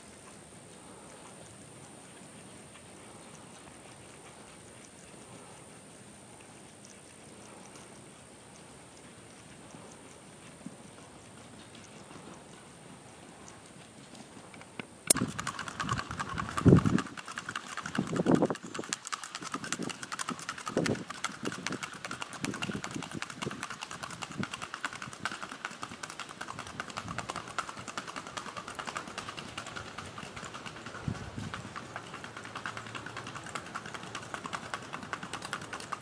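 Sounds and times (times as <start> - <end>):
hoofbeats on a hard path: 0.0 - 36.0.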